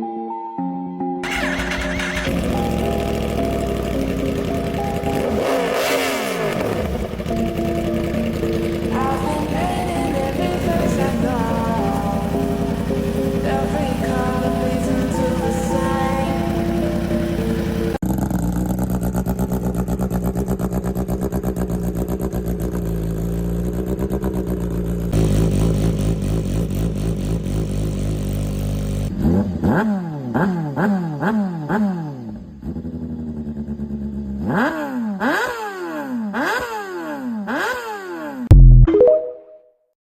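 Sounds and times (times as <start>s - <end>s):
motorcycle engine revving: 1.2s - 38.6s.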